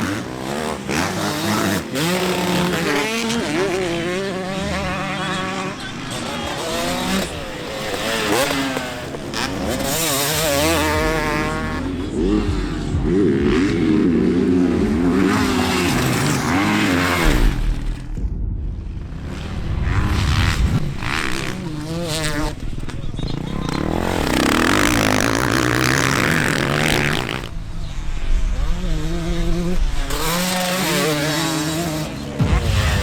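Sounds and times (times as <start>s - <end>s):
motocross bikes revving: 0.0s - 18.1s, 19.3s - 33.0s.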